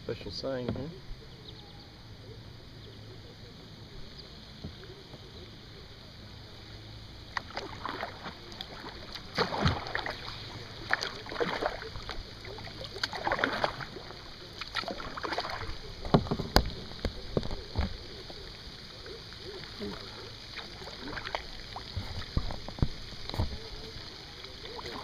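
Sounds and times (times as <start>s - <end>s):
paddle blades splashing water: 3.5s - 25.0s.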